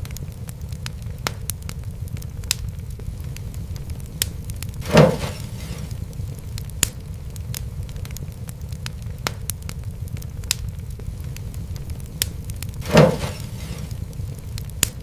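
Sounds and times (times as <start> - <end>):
fire crackling pops: 0.0 - 15.0
fire low rumble: 0.0 - 15.0.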